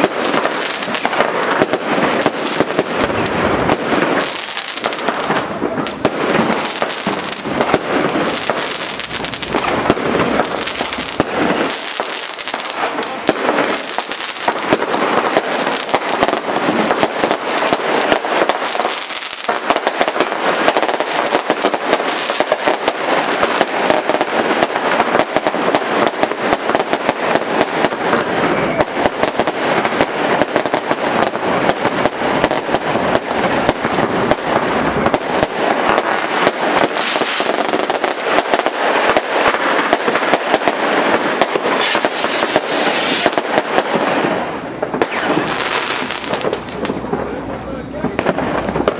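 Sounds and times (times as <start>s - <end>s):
fireworks shots and crackling: 0.0s - 48.9s.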